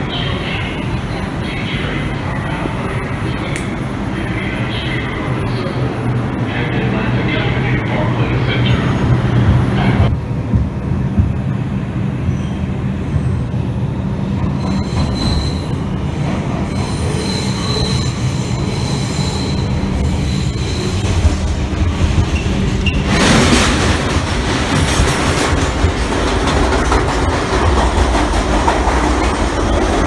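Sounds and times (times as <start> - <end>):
subway train rumble: 0.0 - 30.0
train passing on adjacent track: 0.0 - 30.0.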